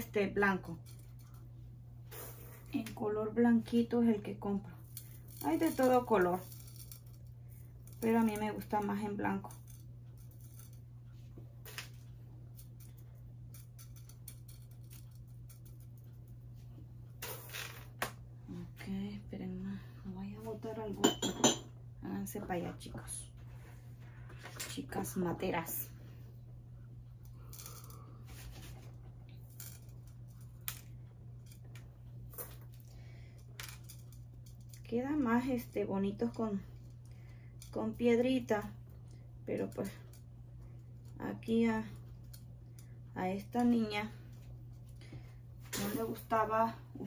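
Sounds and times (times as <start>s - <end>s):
low hum: 0.0s - 47.0s.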